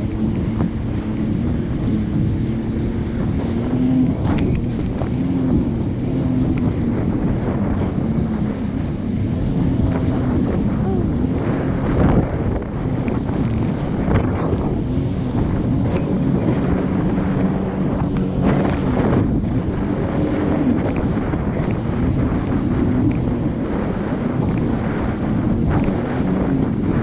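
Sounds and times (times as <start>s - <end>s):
jet ski engine drone: 0.0s - 27.0s
wind buffeting microphone: 0.0s - 27.0s.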